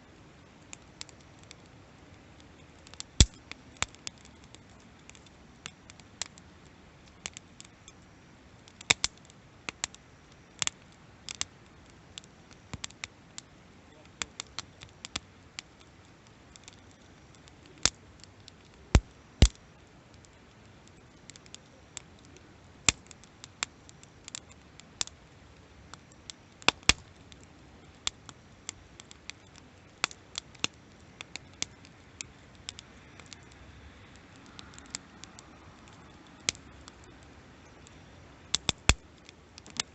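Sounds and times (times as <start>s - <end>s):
campfire crackling and popping: 0.0s - 39.9s
hiss of burning: 0.0s - 39.9s.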